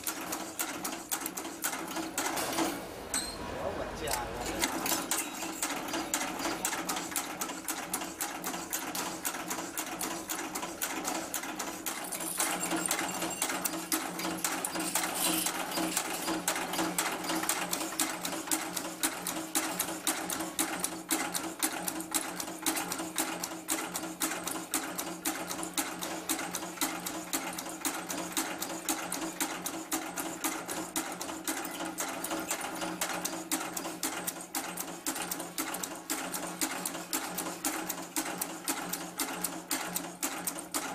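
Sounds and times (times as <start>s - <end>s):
machine clattering rapidly: 0.0s - 2.8s, 4.1s - 40.9s.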